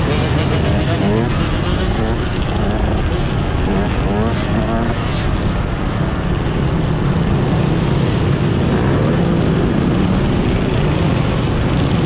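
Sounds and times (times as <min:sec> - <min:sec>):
dirt bike engines droning: 0:00.0 - 0:12.0.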